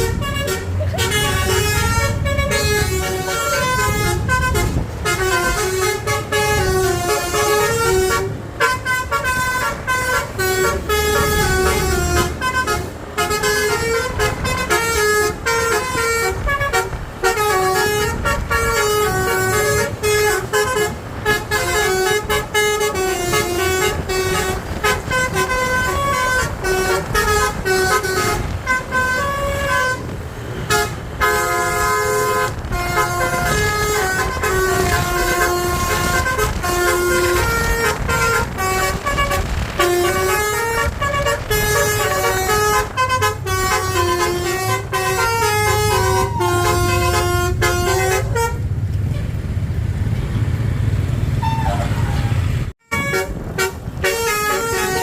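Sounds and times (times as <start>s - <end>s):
multi-trumpet bus air horn melody: 0.0s - 49.4s, 51.4s - 55.0s.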